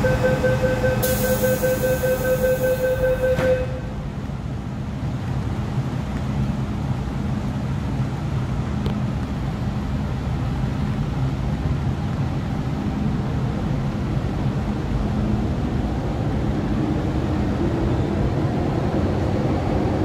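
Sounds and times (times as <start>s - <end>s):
metro train rumbling: 0.0s - 20.0s.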